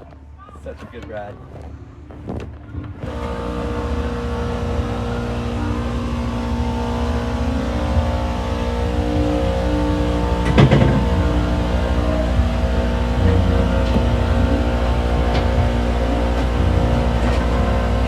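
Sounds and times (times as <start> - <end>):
motor humming and whining: 2.8 - 18.0.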